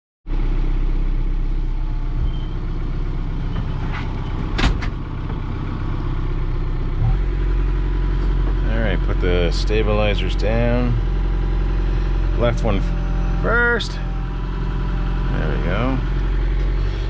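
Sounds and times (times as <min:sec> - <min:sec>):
backhoe diesel engine running: 0:00.3 - 0:17.0.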